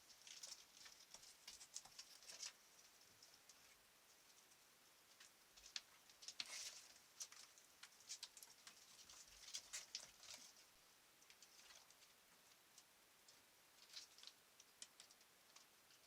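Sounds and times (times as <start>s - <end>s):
small animal feet pattering: 0.0s - 16.0s.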